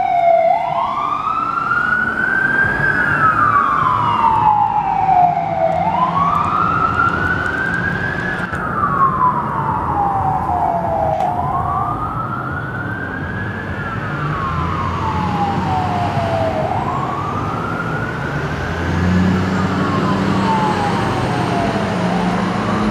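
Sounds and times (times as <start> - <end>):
ambulance siren wailing: 0.0 - 22.9
road and engine rumble: 0.0 - 22.9.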